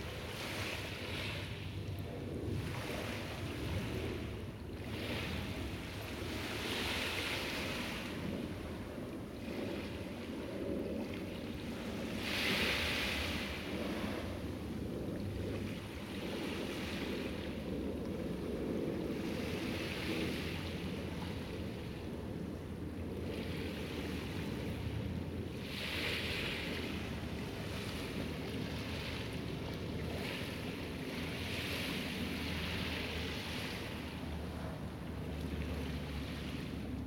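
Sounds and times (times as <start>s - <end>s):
low rumble of surf: 0.0s - 37.0s
waves washing onto shore: 0.0s - 37.0s
wind buffeting microphone: 0.0s - 37.0s.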